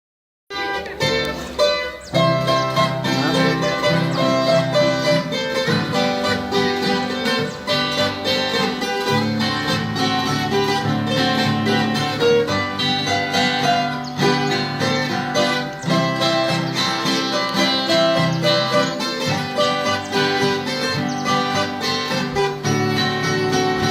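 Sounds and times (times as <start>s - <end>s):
plucked acoustic guitar music: 0.5s - 23.9s.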